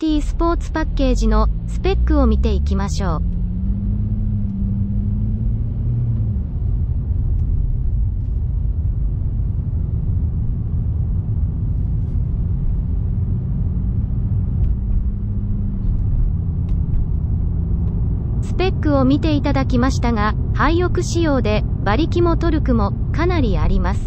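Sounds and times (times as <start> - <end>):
engine and road rumble: 0.0 - 24.0.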